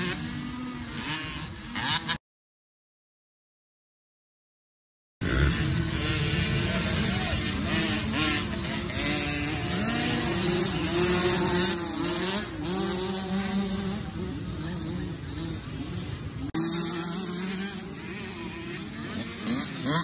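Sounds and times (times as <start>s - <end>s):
dirt bike engines revving: 0.0s - 2.2s, 5.2s - 20.0s.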